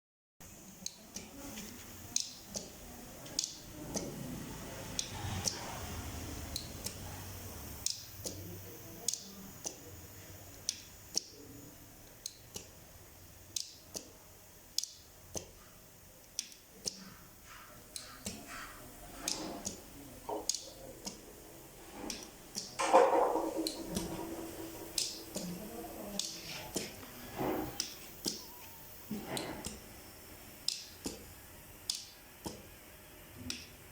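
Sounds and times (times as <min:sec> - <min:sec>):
steady low hum: 0:00.4 - 0:33.9.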